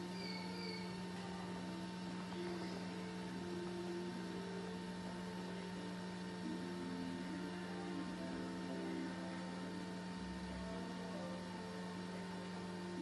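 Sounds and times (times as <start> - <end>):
electrical mains hum: 0.0 - 13.0
thin high-pitched whine: 0.0 - 13.0.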